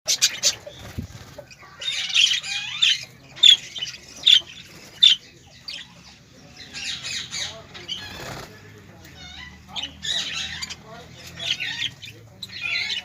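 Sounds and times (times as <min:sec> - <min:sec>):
birds squawking: 0:00.1 - 0:13.0.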